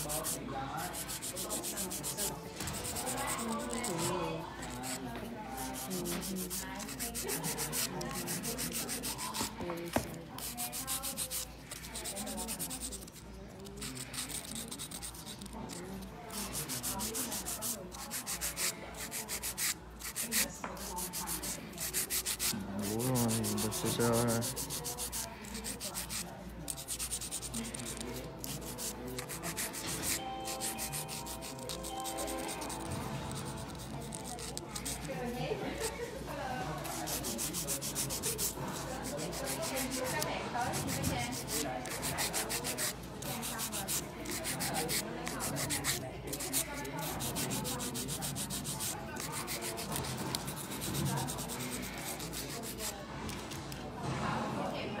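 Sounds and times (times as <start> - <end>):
nail file rasping: 0.0 - 5.0, 5.6 - 9.5, 10.4 - 35.1, 36.8 - 52.9.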